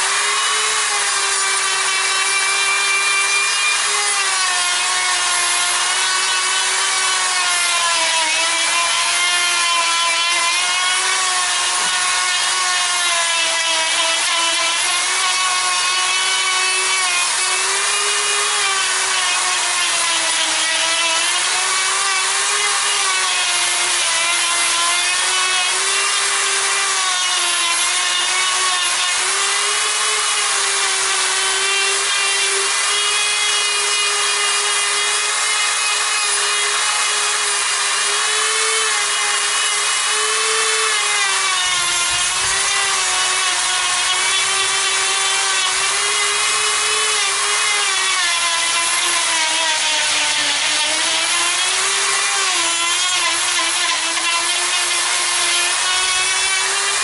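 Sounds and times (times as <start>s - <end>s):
rasp of wood being cut: 0.0s - 57.0s
rotary grinder motor whine: 0.0s - 57.0s.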